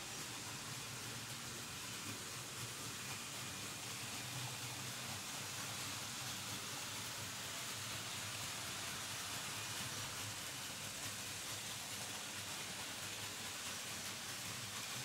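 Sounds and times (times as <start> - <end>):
model trains rattling on metal rails: 0.0 - 15.0.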